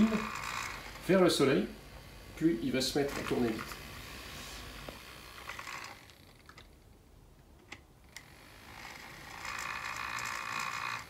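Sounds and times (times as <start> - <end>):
small motor whirring buzz: 0.0 - 6.7, 8.1 - 11.0.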